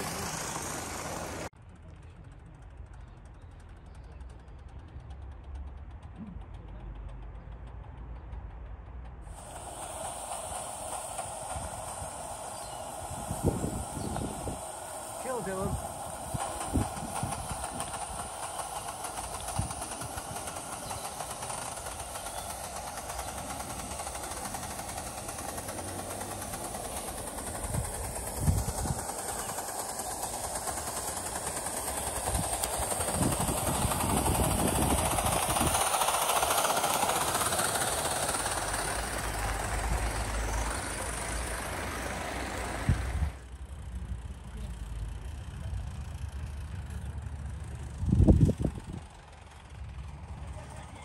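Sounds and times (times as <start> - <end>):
model steam locomotive running: 0.0 - 51.0.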